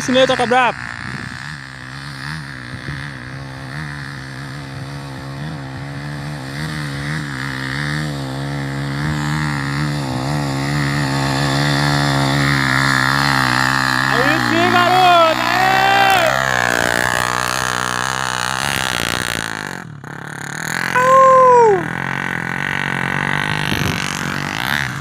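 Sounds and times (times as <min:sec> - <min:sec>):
motorcycle engine labouring uphill: 0:00.0 - 0:25.0.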